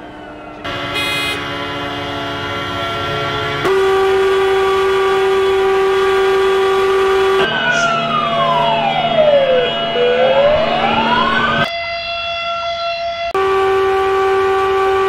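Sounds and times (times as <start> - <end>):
horns and sirens chord: 0.0 - 15.0
single steady siren tone: 0.0 - 15.0.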